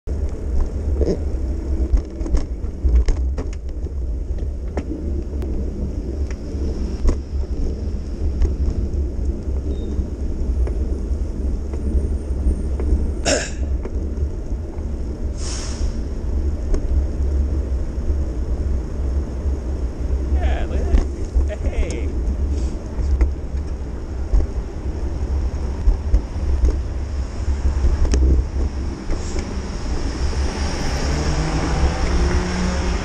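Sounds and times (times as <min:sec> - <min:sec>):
light road noise: 0:00.1 - 0:33.0.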